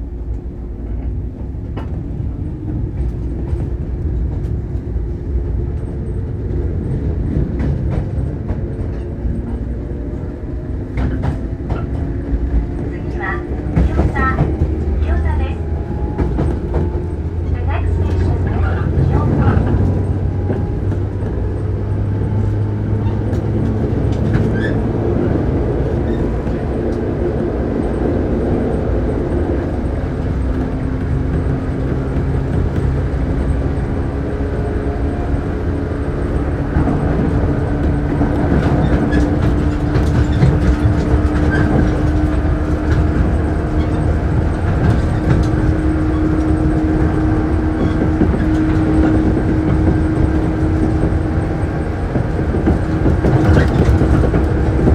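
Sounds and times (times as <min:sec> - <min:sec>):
wheels rumbling on rail: 0:00.0 - 0:54.9.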